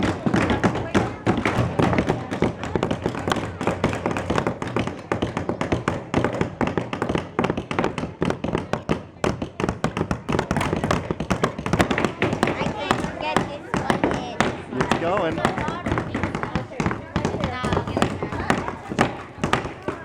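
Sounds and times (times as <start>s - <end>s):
hammers tapping nails into wood: 0.0s - 20.0s.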